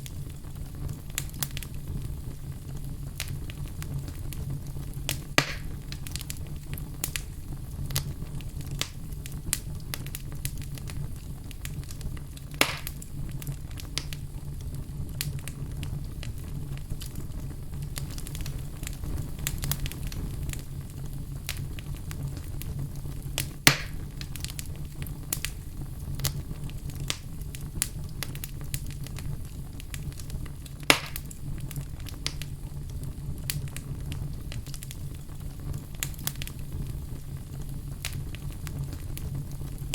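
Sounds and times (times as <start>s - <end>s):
fire crackling: 0.0s - 39.9s
fire pops: 0.0s - 39.9s.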